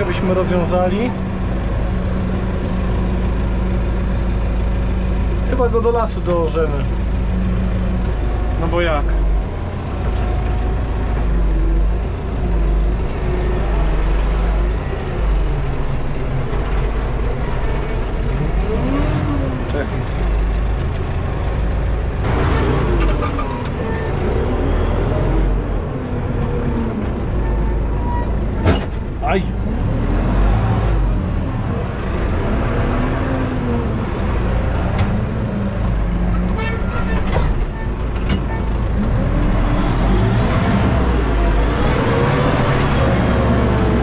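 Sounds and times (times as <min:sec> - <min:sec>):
tractor diesel engine drone: 0:00.0 - 0:44.0.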